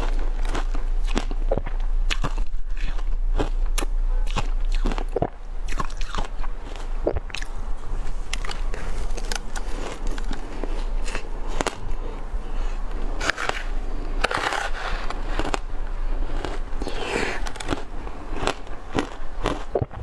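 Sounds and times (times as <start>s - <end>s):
chewing crunchy ice: 0.0s - 20.0s.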